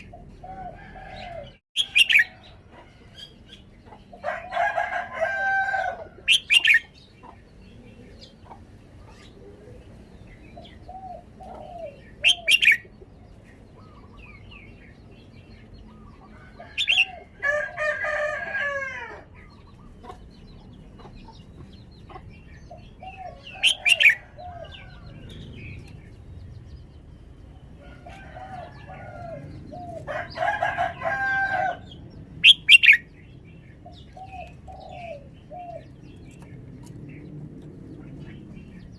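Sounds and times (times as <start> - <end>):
bird song phrases: 0.0 - 38.9.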